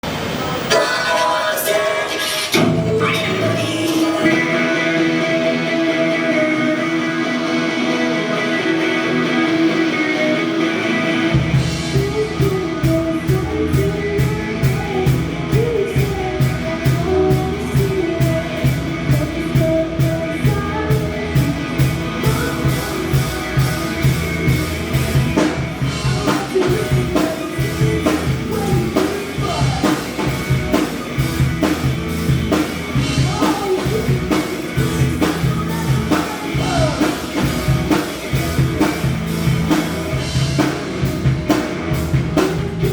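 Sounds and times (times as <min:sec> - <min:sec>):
bass guitar: 0:00.0 - 0:42.9
drums: 0:00.0 - 0:42.9
electric guitar: 0:00.0 - 0:42.9.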